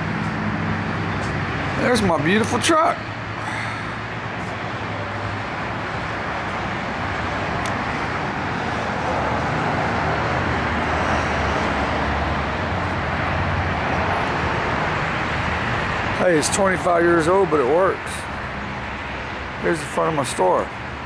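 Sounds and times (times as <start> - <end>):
road traffic passing cars: 0.0 - 21.0.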